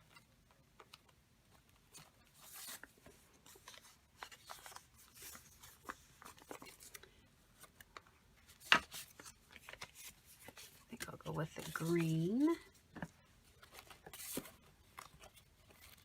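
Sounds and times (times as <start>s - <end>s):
paper crinkling: 0.0s - 16.0s
paper rustling: 0.1s - 16.0s.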